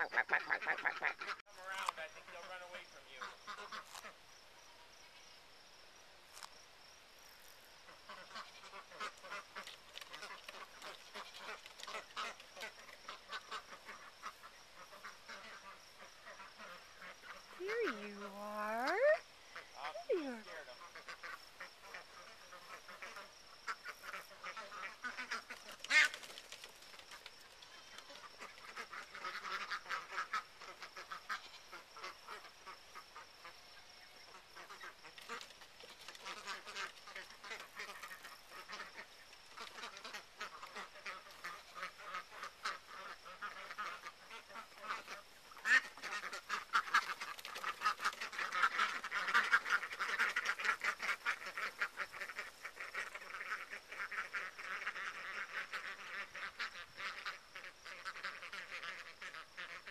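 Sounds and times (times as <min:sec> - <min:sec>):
ducks quacking: 0:00.0 - 0:01.4, 0:08.1 - 0:26.2, 0:28.1 - 0:33.6, 0:36.2 - 0:59.9.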